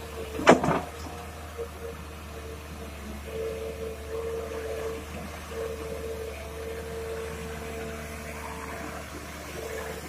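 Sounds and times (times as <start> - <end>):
excavator diesel engine: 0.0 - 10.0
high hydraulic whine: 0.0 - 10.0.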